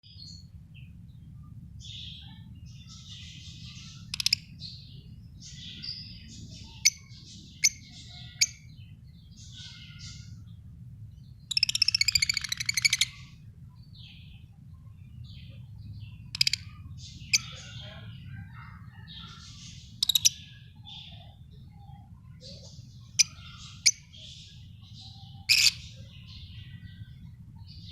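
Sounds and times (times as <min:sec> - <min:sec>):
steady low hum: 0:00.0 - 0:27.9
lovebirds chirping: 0:00.1 - 0:27.9.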